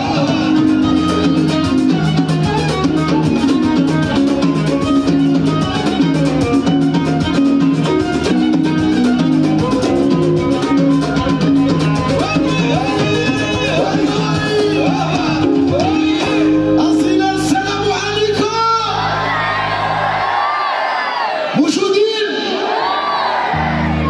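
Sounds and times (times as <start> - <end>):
live band instrumental: 0.0 - 24.0.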